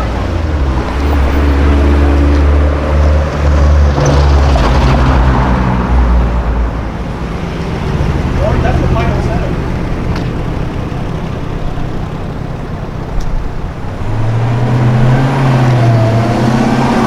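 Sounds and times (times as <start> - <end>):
sports car engine running: 0.0 - 17.0.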